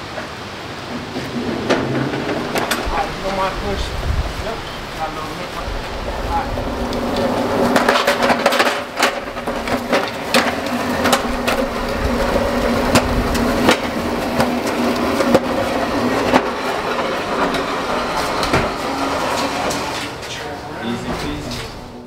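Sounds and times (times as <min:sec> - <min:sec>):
pallet jack wheels clattering: 0:00.2 - 0:22.0.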